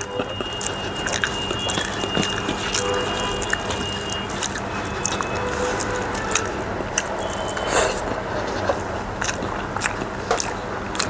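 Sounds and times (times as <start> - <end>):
fingers squishing food: 0.0 - 11.0.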